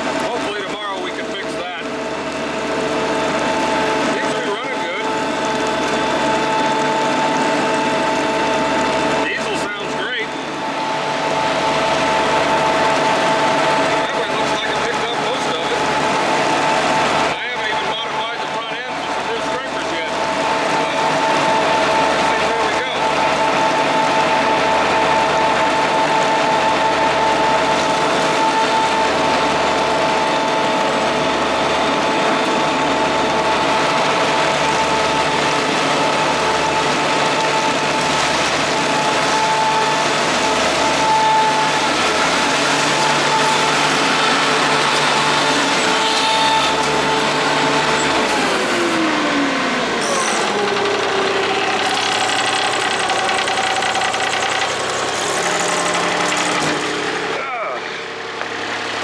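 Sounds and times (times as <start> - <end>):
rough rattling mechanical noise: 0.0 - 59.0
vacuum machine engine whine: 0.0 - 59.0.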